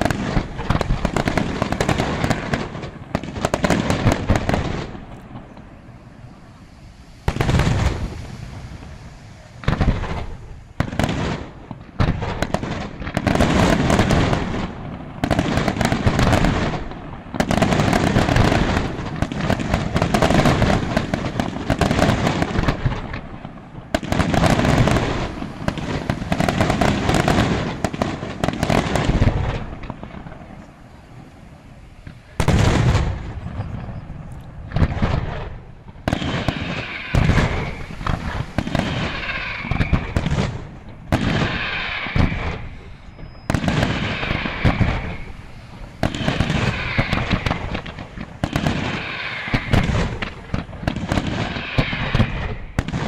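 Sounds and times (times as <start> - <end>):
firework shell bursts and crackling: 0.0 - 53.0.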